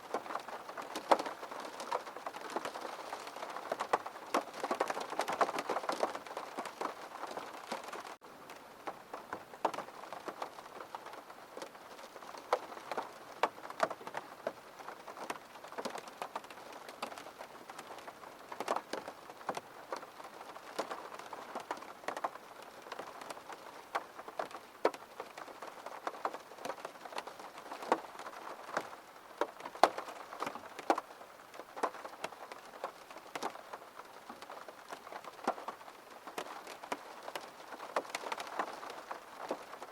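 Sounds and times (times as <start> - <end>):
rain on window glass: 0.0 - 39.9.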